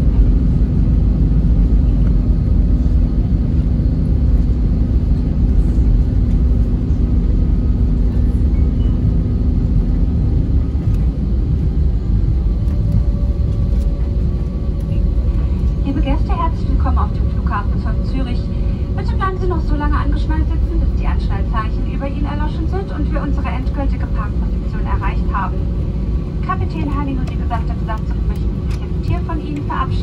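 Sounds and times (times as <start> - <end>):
aircraft cabin rumble: 0.0 - 30.0
steady hum: 0.0 - 30.0.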